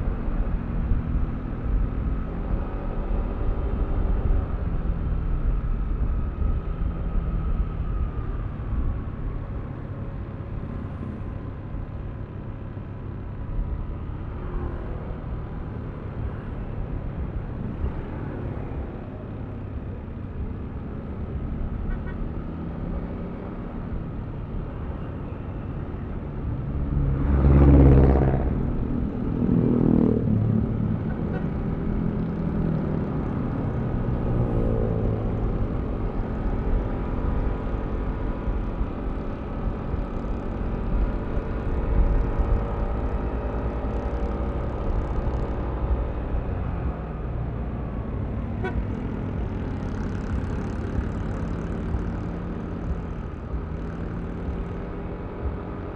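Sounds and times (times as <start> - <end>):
road traffic: 0.0 - 55.9.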